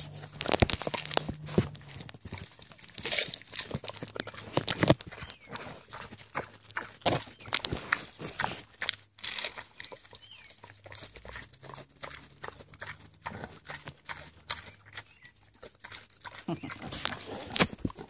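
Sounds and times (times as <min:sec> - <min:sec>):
pig chewing lettuce: 0:00.0 - 0:18.0.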